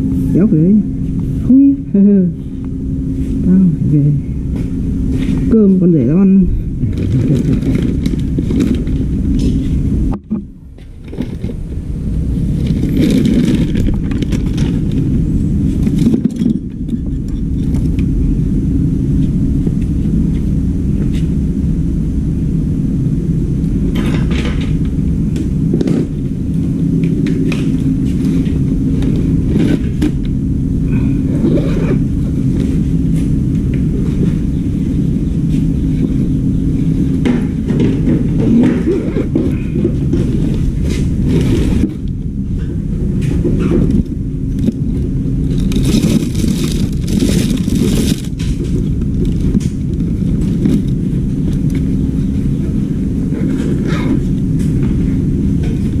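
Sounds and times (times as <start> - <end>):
low mechanical rumble: 0.0 - 56.0.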